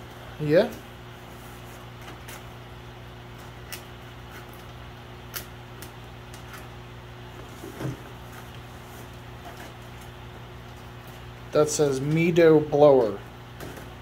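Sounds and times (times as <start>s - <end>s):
low hum of room equipment: 0.0s - 14.0s.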